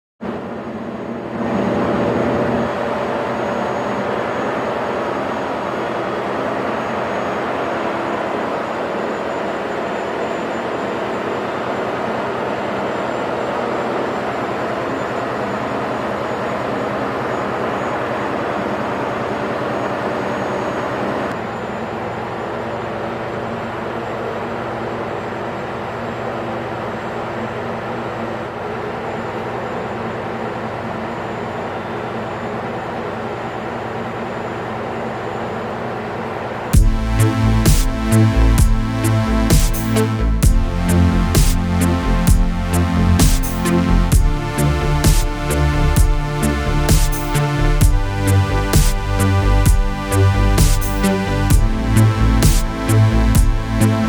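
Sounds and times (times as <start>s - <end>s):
engine-room machinery droning: 0.2s - 54.0s.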